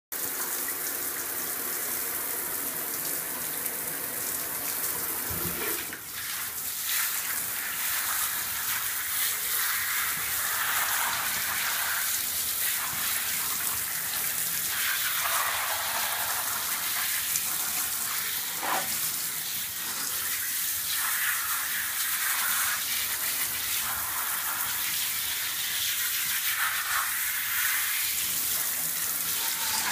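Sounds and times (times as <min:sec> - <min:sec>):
shower spraying water: 0:00.1 - 0:29.9.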